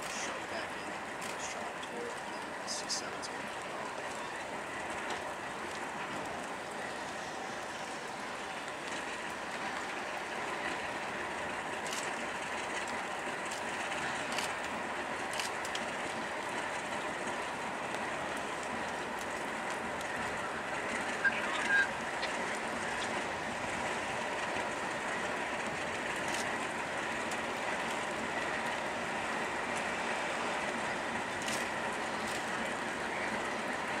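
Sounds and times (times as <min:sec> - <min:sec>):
diesel locomotive rumbling: 0:00.0 - 0:34.0.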